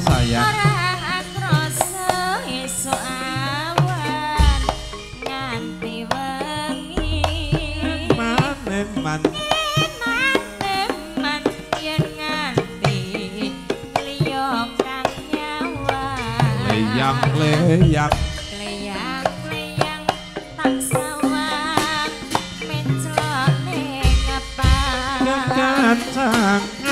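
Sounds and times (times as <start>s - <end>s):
hand drum strokes: 0.0s - 26.9s
woman singing: 0.0s - 26.9s.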